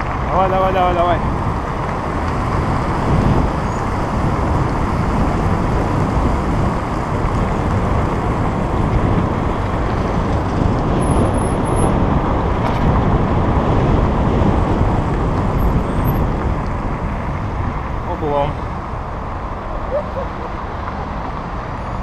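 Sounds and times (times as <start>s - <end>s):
wind on microphone: 0.0s - 18.1s
road noise: 0.0s - 22.0s.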